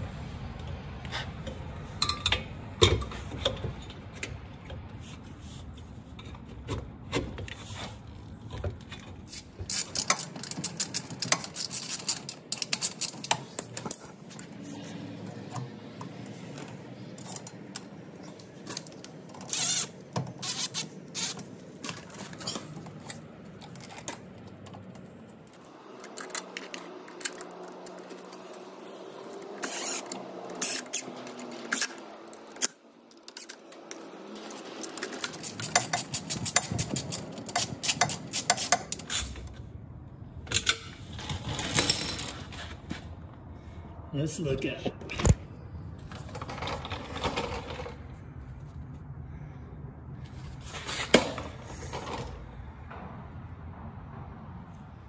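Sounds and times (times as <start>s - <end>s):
nuts and bolts clicking and rattling: 1.4s - 5.2s, 6.1s - 43.5s, 45.1s - 49.0s, 50.2s - 54.9s.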